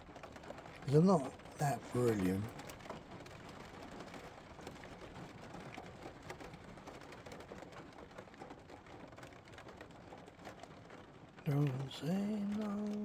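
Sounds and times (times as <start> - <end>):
rain on a vehicle roof: 0.0 - 13.0.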